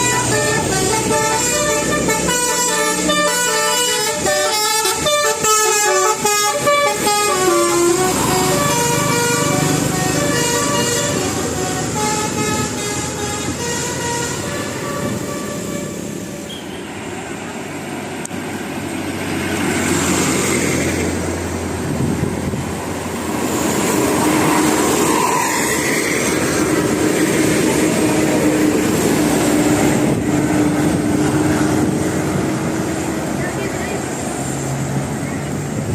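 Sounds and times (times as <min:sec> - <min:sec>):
bus engine and tyre rumble: 0:00.0 - 0:35.9.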